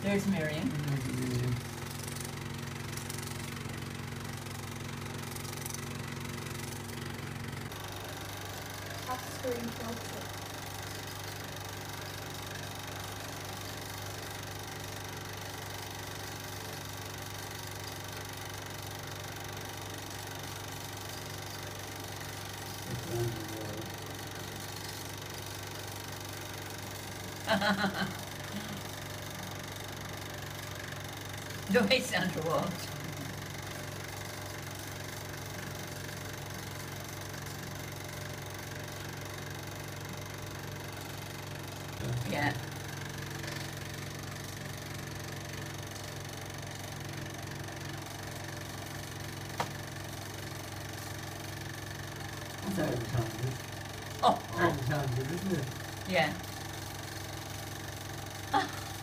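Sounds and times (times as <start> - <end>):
film projector motor hum: 0.0 - 59.0.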